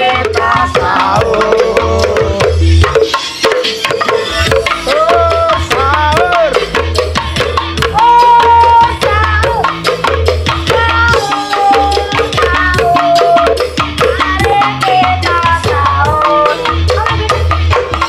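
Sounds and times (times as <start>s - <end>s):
deep regular beat: 0.0s - 18.0s
hand drums: 0.0s - 18.0s.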